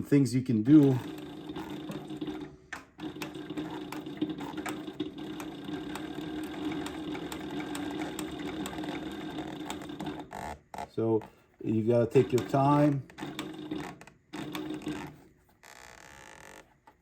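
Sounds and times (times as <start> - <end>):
industrial sewing machine stitching: 0.0 - 10.6, 11.7 - 15.3.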